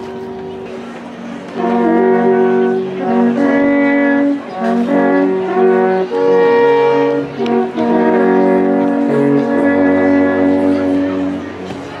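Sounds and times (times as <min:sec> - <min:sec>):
brass instruments playing chords: 0:00.0 - 0:12.0.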